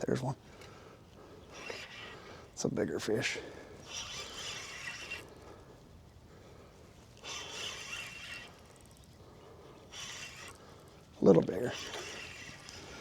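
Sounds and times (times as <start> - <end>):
fishing reel buzzing: 0.6 - 13.0.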